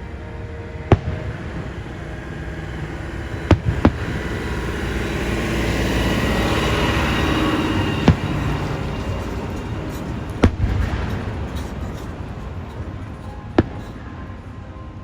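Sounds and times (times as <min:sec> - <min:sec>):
rumble and crackle of fireworks: 0:00.8 - 0:06.1, 0:07.2 - 0:15.0
firework bangs: 0:00.9 - 0:14.1.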